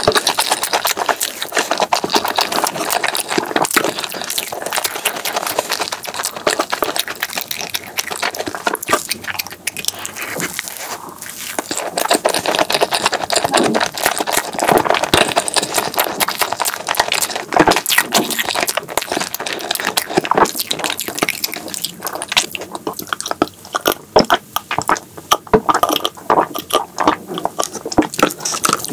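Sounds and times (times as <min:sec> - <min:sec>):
wet chewing and lip smacking: 0:00.0 - 0:28.9.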